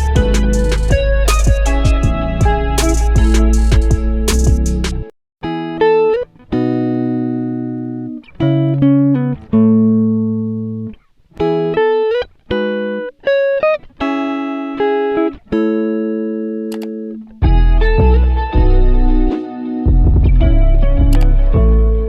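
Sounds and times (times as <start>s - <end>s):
plucked guitar melody: 0.0s - 22.0s.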